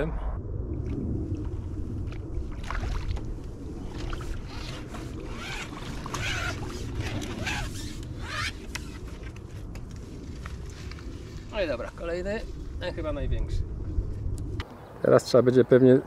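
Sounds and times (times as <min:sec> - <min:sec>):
wind on microphone: 0:00.0 - 0:14.9.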